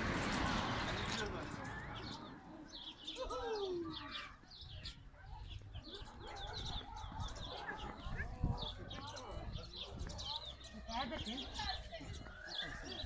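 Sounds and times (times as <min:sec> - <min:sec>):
small birds chirping: 0:00.4 - 0:13.0.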